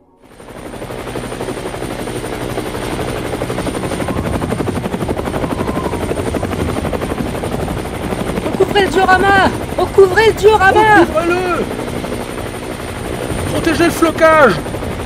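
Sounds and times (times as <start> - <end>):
helicopter rotor chopping: 0.2 - 15.0.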